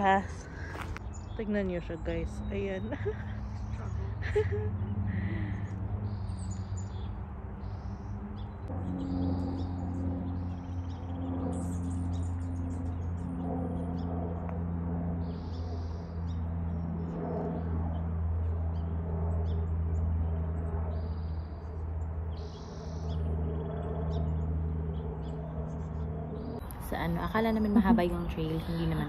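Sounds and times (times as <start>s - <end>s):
songbirds chirping: 0.0s - 29.0s
steady low drone: 0.0s - 29.0s.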